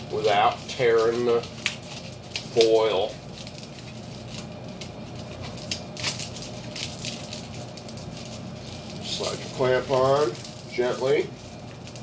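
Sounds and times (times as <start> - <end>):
foil tubing crinkling: 0.0 - 12.0.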